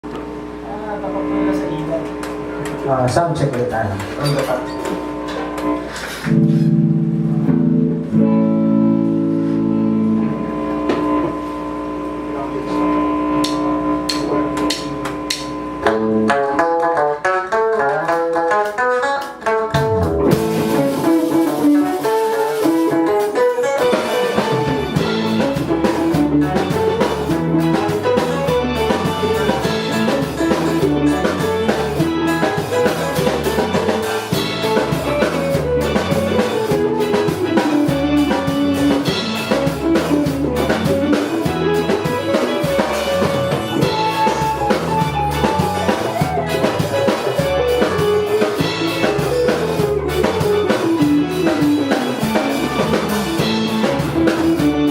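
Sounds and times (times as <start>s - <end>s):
bass: 0.0s - 54.9s
drums: 0.0s - 54.9s
guitar: 0.0s - 54.9s.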